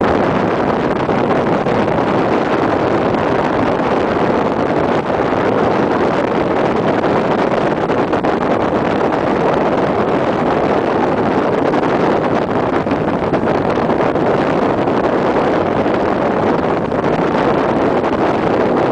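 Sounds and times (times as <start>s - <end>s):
motorboat running: 0.0s - 18.9s
wind noise on microphone: 0.0s - 18.9s.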